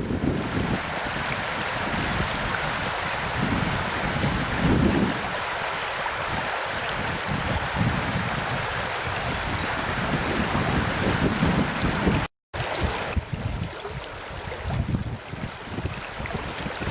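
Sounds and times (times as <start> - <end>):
river water rushing: 0.0 - 16.9
wind buffeting microphone: 0.0 - 16.9.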